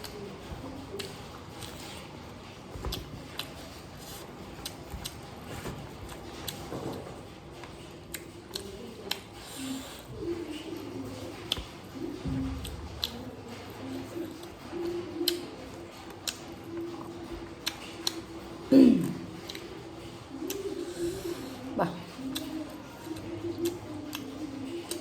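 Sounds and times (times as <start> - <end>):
chewing and mouth smacks: 0.0 - 18.4, 22.0 - 25.0.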